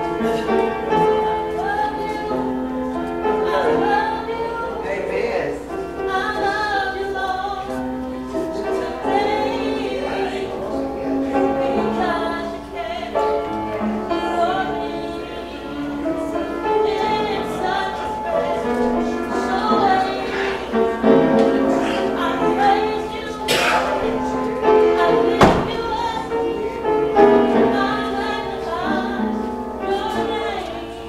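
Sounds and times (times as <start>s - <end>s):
group gospel singing: 0.0s - 31.0s.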